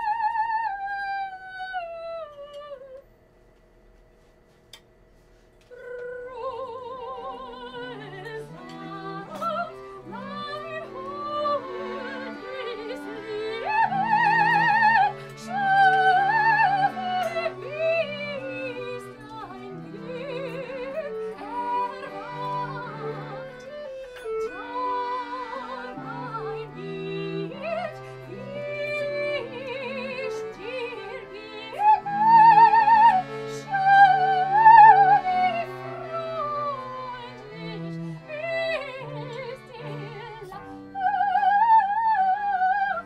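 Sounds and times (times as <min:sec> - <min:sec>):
soprano singing operatically: 0:05.7 - 0:43.0
accordion chords: 0:05.8 - 0:43.0
cello: 0:06.4 - 0:43.0.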